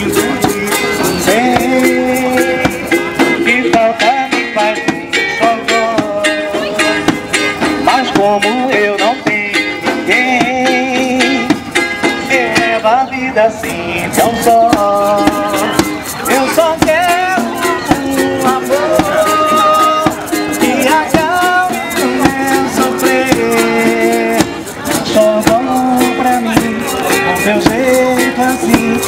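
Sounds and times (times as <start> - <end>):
quick percussive beat: 0.0 - 29.0
upbeat plucked string music: 0.0 - 29.0.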